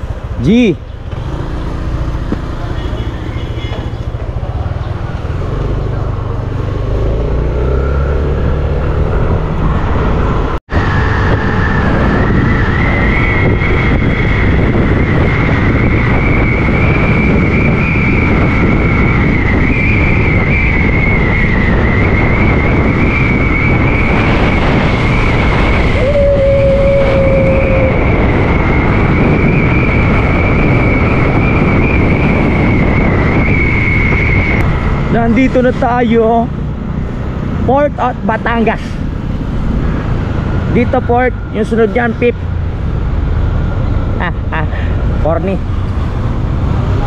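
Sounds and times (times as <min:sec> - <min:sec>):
road and wind noise: 0:00.0 - 0:47.0.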